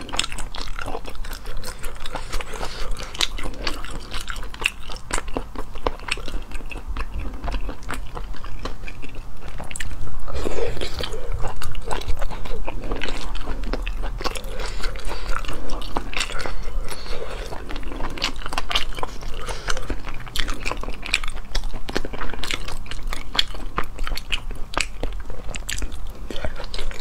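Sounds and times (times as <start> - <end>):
chewing and biting: 0.0 - 27.0.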